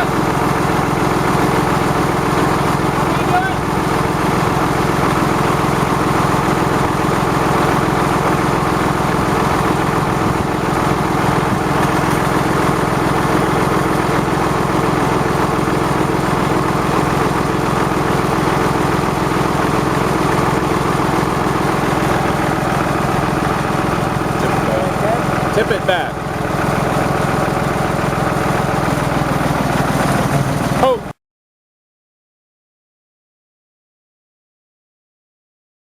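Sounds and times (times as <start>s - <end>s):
engine idling: 0.0s - 31.1s.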